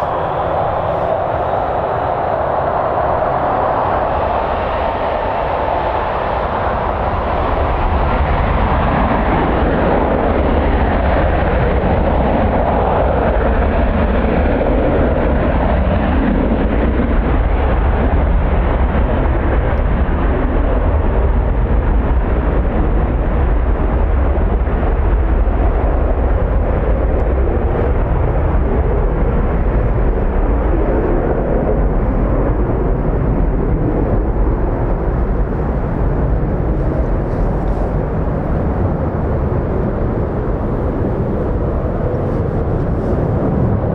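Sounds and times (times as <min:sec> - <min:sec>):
jet engines roaring: 0:00.0 - 0:43.9
wind buffeting microphone: 0:00.0 - 0:43.9.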